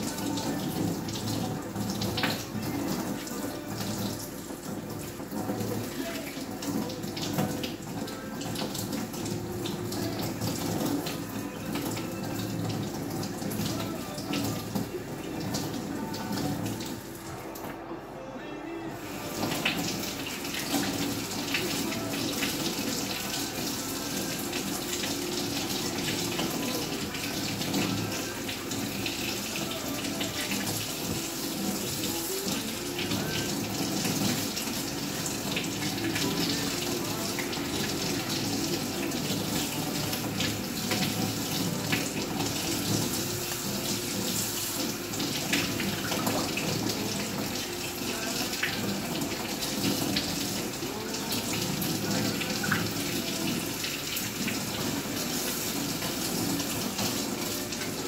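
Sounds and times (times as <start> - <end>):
faucet running into sink: 0.0 - 17.8, 19.0 - 58.0.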